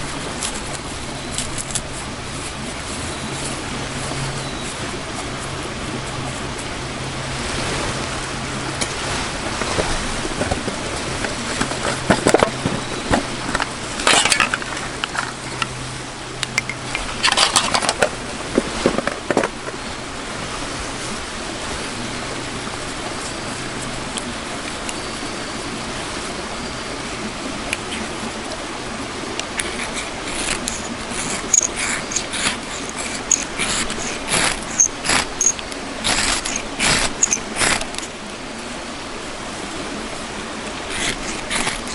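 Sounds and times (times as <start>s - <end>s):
steady rushing noise: 0.0s - 41.9s.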